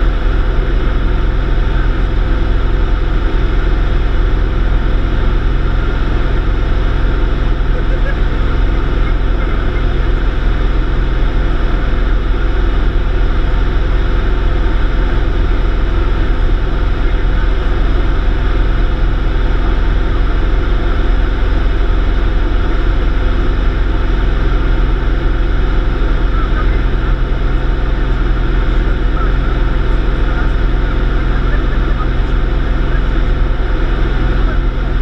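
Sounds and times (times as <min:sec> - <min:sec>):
light aircraft engine droning: 0:00.0 - 0:35.0.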